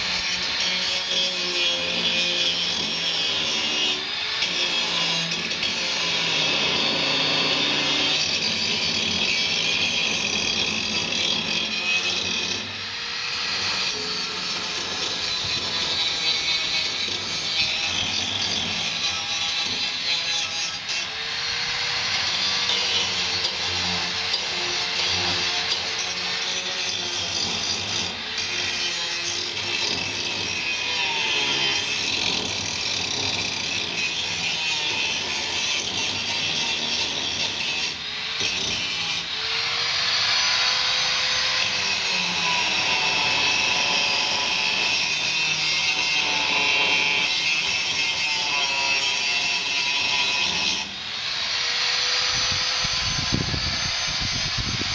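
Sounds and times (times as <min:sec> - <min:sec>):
angle grinder grinding metal: 0:00.0 - 0:54.9.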